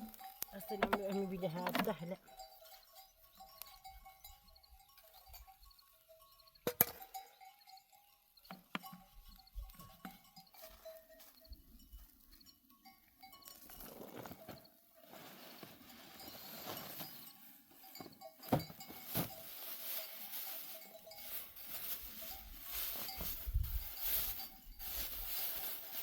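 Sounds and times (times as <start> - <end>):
clinking animal bells: 0.0 - 15.1, 15.7 - 26.0.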